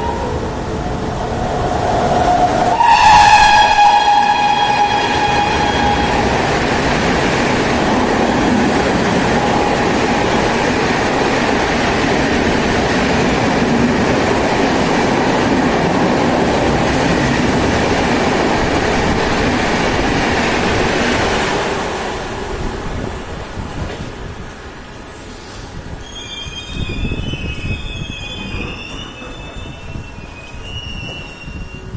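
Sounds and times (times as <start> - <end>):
train passing at high speed: 0.0 - 31.9.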